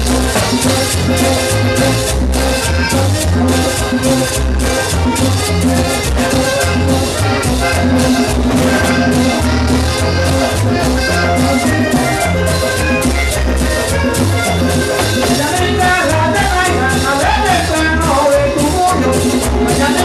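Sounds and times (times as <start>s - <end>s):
bass: 0.0s - 20.0s
button accordion melody: 0.0s - 20.0s
congas: 0.0s - 20.0s
scraper rhythm: 0.0s - 20.0s.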